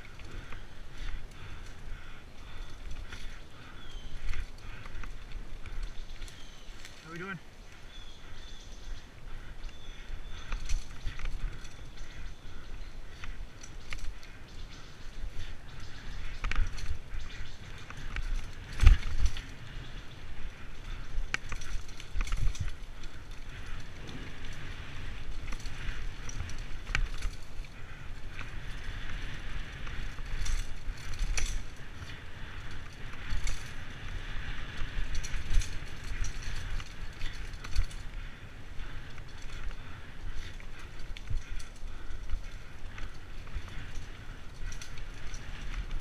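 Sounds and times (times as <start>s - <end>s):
bike chain and frame rattling: 0.0s - 46.0s
bike tyres rumbling over dirt: 0.0s - 46.0s.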